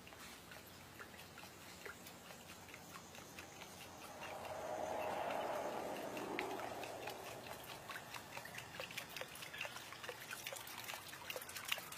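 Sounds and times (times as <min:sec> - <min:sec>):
water wash: 0:00.0 - 0:11.9.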